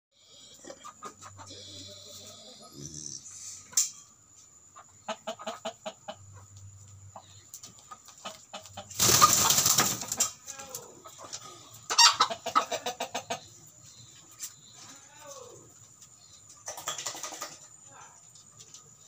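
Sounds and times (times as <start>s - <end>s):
chickens clucking: 0.2s - 19.0s
noisy chicken flurry: 0.3s - 3.8s, 4.4s - 19.0s.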